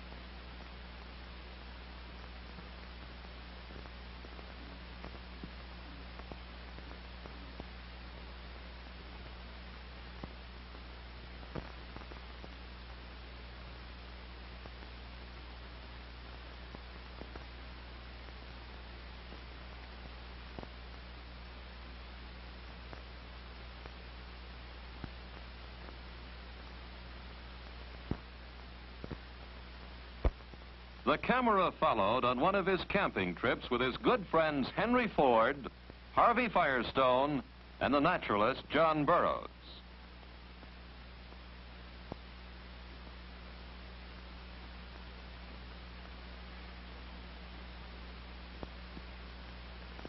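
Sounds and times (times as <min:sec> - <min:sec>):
low mains hum: 0:00.0 - 0:50.0
steady hiss: 0:00.0 - 0:50.0.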